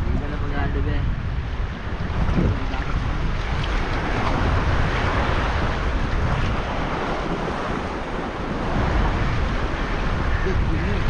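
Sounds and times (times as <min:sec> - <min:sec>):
wind rumbling on microphone: 0:00.0 - 0:11.0
shallow sea water washing: 0:01.4 - 0:11.0.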